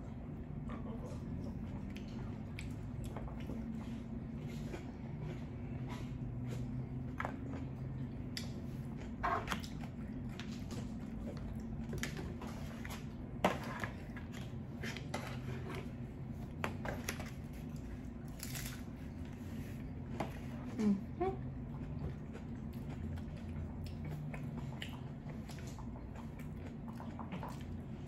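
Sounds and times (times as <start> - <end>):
crunching and chewing tacos: 0.0 - 28.0
steady low hum: 0.0 - 28.0.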